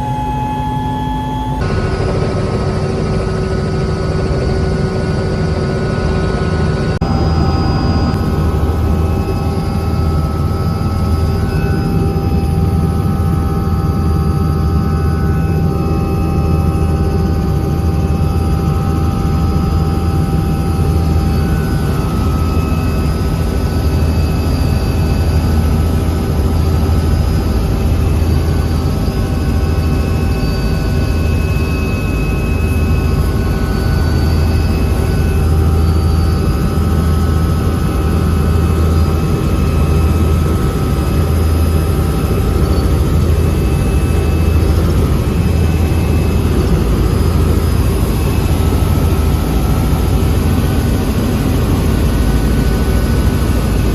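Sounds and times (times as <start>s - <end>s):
helicopter running: 0.0s - 53.9s.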